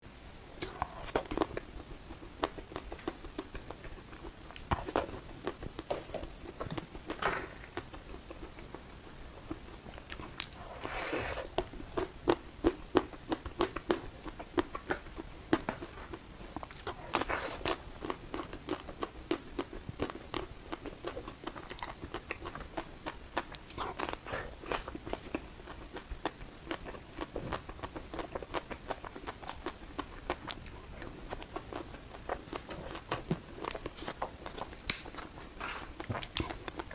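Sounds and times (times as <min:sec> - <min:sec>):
crunching and crackling chewing: 0:00.6 - 0:36.9.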